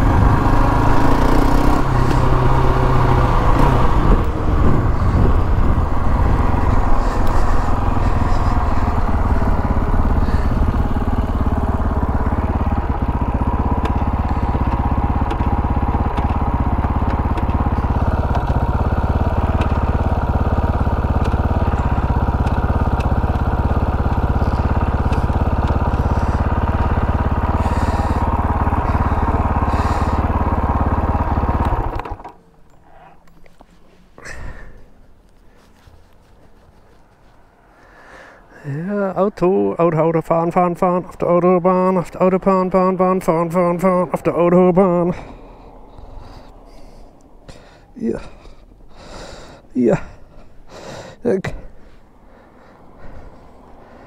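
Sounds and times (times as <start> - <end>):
quad engine running: 0.0 - 33.4, 36.9 - 54.0.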